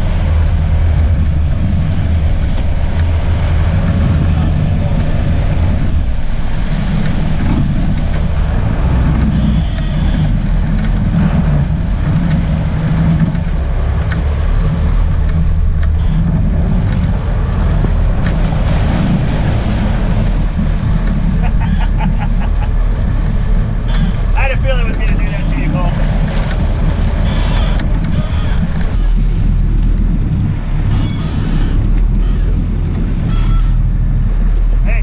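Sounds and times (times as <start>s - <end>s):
boat engines rumbling: 0.0s - 35.0s
water churning: 0.0s - 35.0s
wind on microphone: 0.0s - 35.0s.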